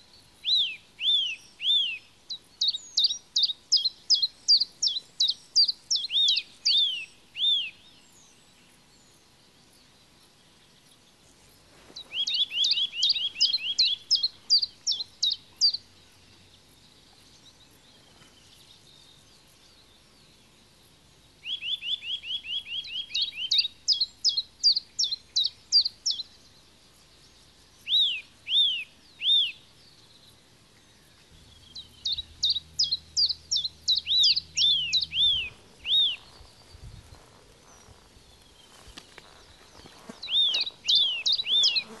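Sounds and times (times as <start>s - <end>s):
songbird chirping: 0.0s - 42.0s.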